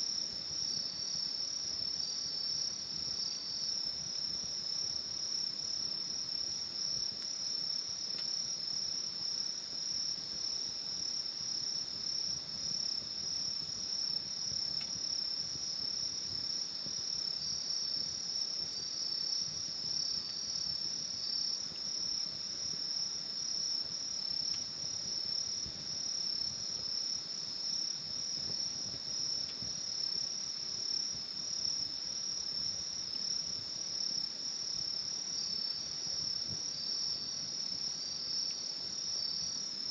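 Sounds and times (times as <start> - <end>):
crickets chirping: 0.0 - 39.9
lower insect trill: 0.0 - 39.9.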